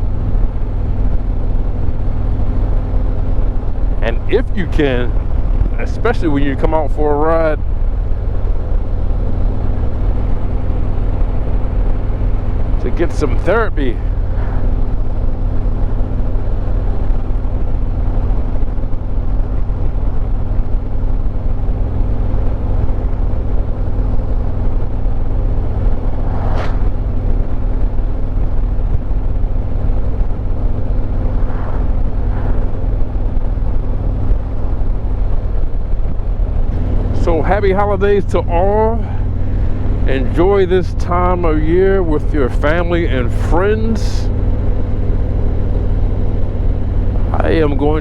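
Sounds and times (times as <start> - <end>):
motorcycle engine cruising: 0.0 - 48.0
wind and road noise: 0.0 - 48.0.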